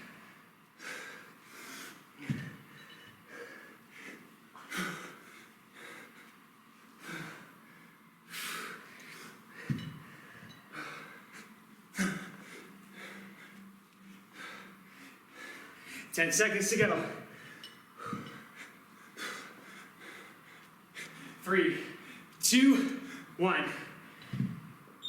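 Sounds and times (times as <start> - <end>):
man breathing hard: 0.0 - 6.4, 7.0 - 16.2, 17.0 - 24.6.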